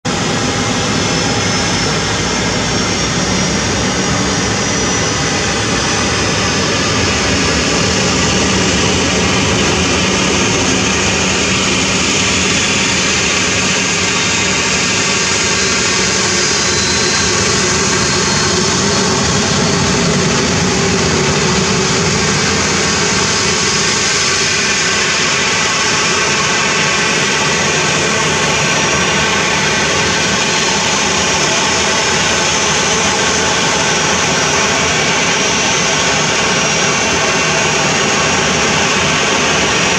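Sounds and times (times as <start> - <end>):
jet engines whining: 0.1 - 39.9.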